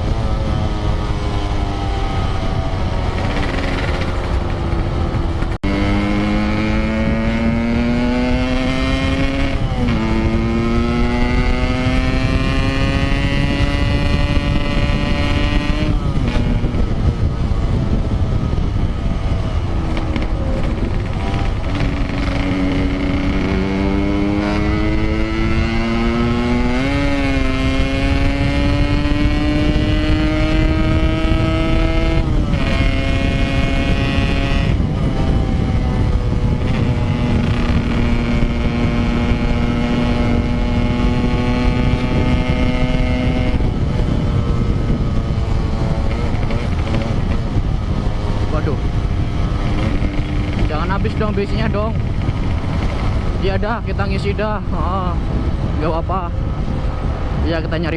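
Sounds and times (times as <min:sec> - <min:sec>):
two-stroke motorcycle engine: 0:00.0 - 0:57.3.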